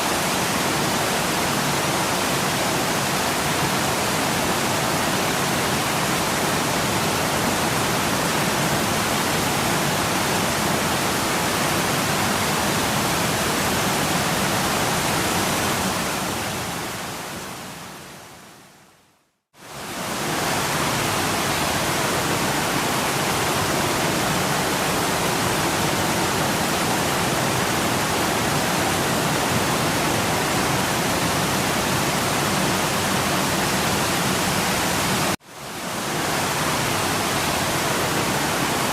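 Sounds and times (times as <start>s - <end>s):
waterfall rushing: 0.0s - 18.3s, 19.6s - 38.9s.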